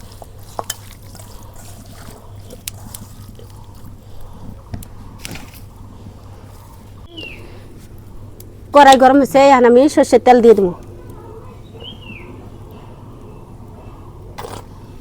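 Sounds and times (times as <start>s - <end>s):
stove fire low hum: 0.0s - 15.0s.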